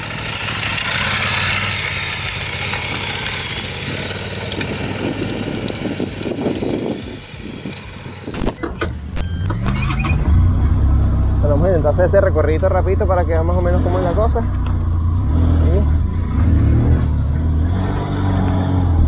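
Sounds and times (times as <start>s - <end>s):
motorcycle engine revving: 0.0s - 8.6s, 9.2s - 19.0s
motorcycle engines running: 0.0s - 19.0s.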